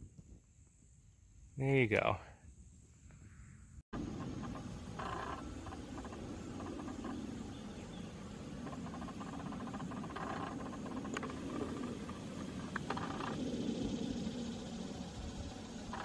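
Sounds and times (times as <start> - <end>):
low outdoor background noise: 0.0 - 16.0.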